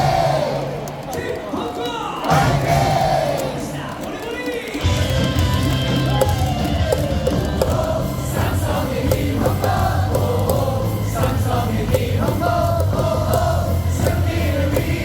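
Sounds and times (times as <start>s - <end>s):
amplified stadium music: 0.0s - 15.0s
crowd singing a chant: 0.0s - 15.0s.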